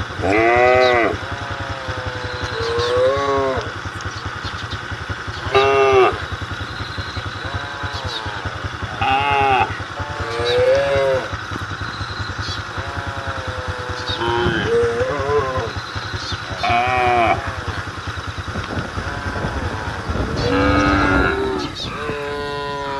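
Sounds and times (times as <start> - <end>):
cattle calling: 0.0 - 22.9
engine idling: 0.0 - 22.9.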